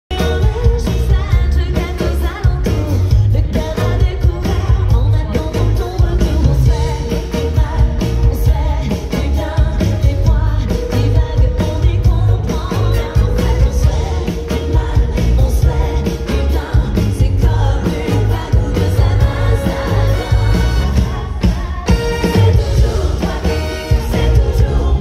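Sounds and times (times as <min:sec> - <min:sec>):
bass guitar: 0:00.1 - 0:25.0
drum beat: 0:00.1 - 0:25.0
woman singing: 0:00.1 - 0:25.0.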